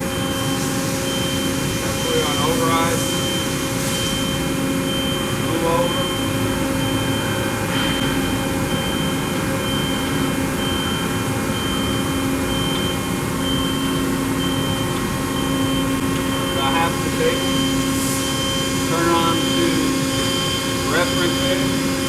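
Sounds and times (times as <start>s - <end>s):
industrial machinery humming: 0.0s - 22.0s.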